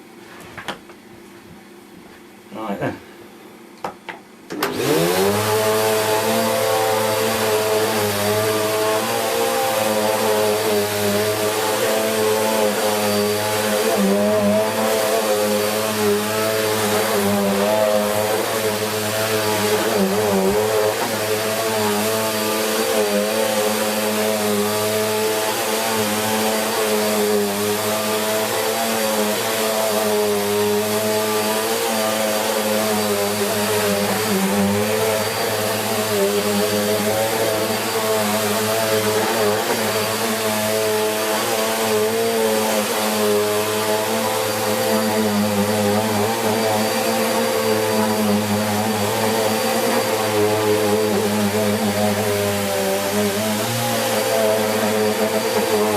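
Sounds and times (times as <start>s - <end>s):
vacuum cleaner running on carpet: 4.5s - 55.9s.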